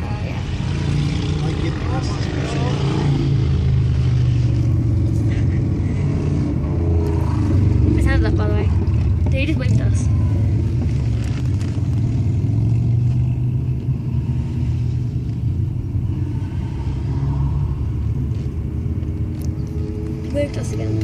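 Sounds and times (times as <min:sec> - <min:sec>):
car engine low rumble: 0:00.0 - 0:21.0
road noise: 0:00.0 - 0:21.0.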